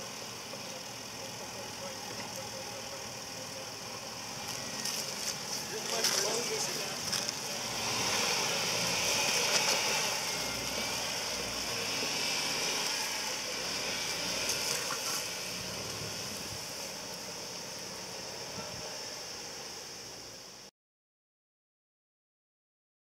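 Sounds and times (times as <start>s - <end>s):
steady high hiss: 0.0s - 20.7s
vehicle engine running: 0.0s - 20.7s.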